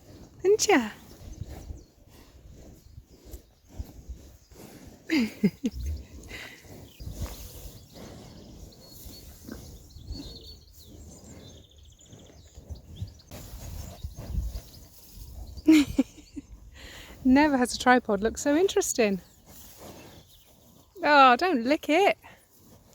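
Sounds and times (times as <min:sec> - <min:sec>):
cows snuffling and breathing: 0:00.0 - 0:22.9.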